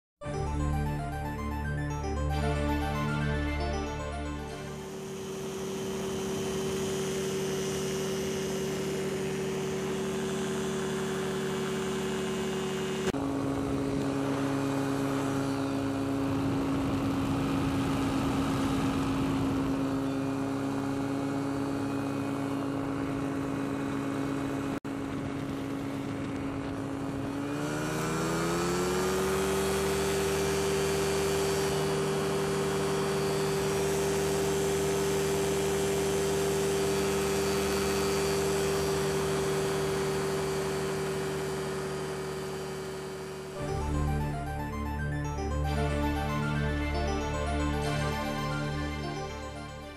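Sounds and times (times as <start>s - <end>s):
engine and propeller running: 0.0s - 49.9s.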